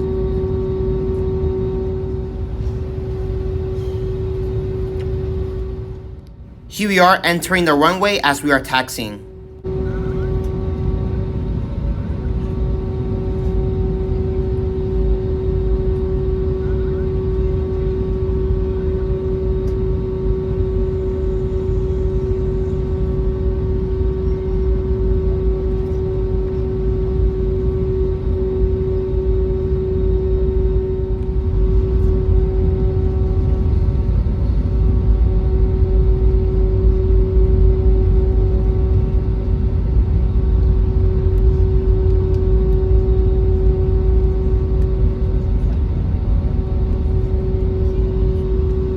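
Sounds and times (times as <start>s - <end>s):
jet engines humming at taxi power: 0.0s - 48.9s.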